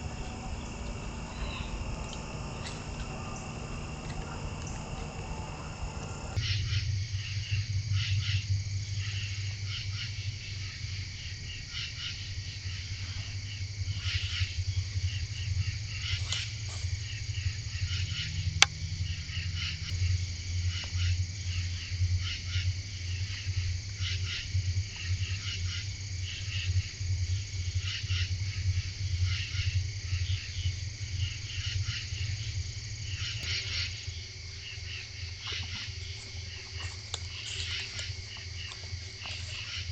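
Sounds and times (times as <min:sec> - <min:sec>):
crickets and insects trilling: 0:00.0 - 0:39.9
low steady hum: 0:00.0 - 0:39.9.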